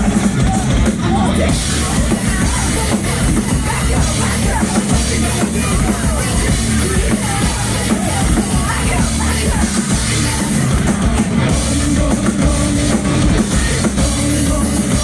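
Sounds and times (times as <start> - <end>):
drums: 0.0 - 15.0
live rock band playing: 0.0 - 15.0.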